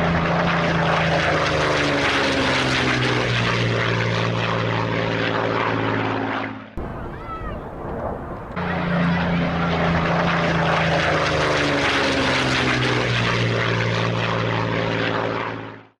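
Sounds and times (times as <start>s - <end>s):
propeller aircraft engine flying past: 0.0s - 16.0s.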